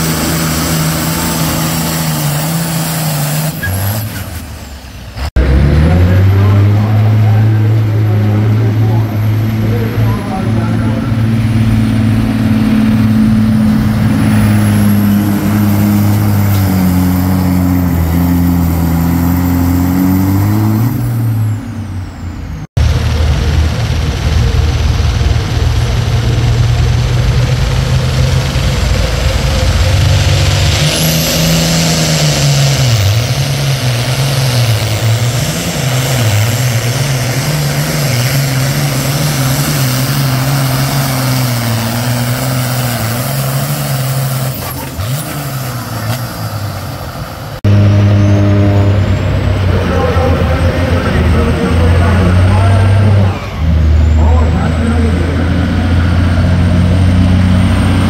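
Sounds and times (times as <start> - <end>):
diesel engine droning: 0.0 - 58.0
diesel engine running hard: 0.0 - 58.0
high whine: 0.0 - 58.0.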